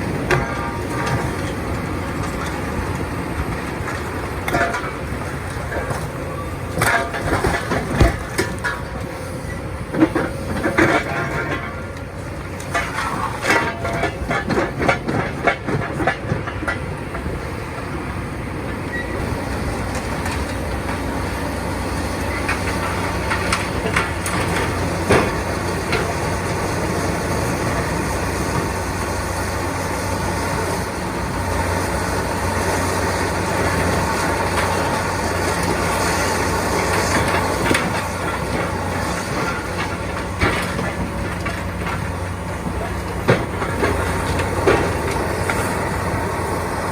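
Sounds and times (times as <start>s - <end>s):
debris clanking and cracking: 0.0s - 18.1s, 18.9s - 32.1s, 32.8s - 46.5s
excavator diesel engine running: 0.0s - 46.9s.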